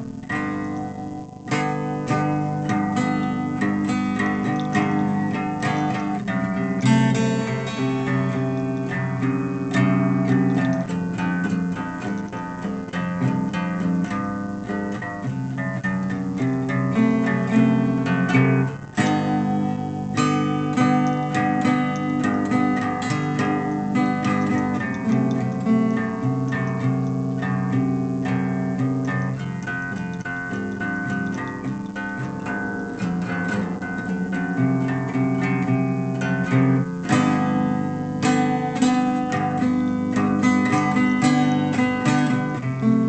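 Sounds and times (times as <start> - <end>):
guitar strumming chords: 0.0 - 43.0.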